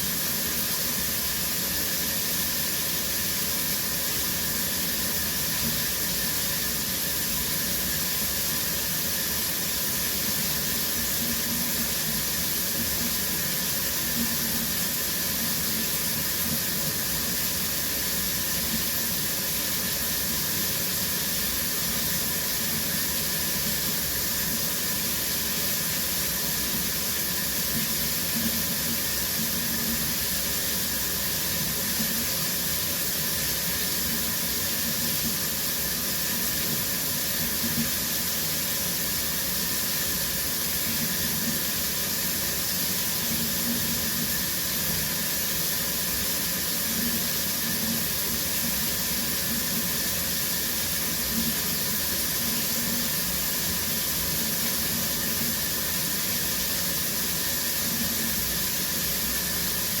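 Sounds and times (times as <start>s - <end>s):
shower water spraying: 0.0s - 60.0s.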